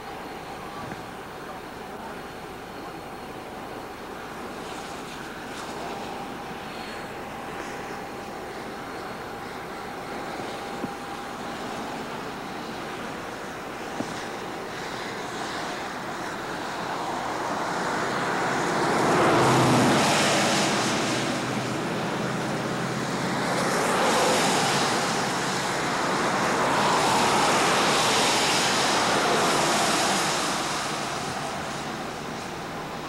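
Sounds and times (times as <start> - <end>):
tyres hissing on wet road: 4.0 - 33.0.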